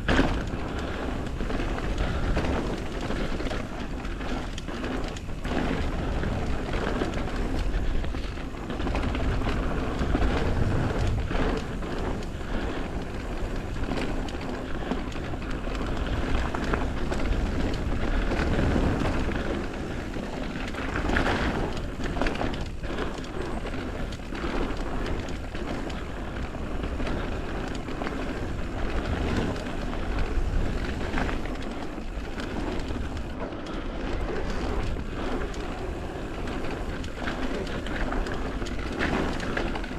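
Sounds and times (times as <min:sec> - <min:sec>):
bike knocking and rattling: 0:00.0 - 0:39.9
bike tyres rolling over dirt: 0:00.0 - 0:39.9.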